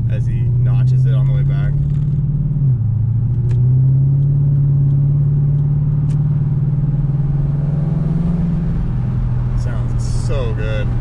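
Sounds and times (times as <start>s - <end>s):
car exhaust drone from inside: 0.0s - 11.0s.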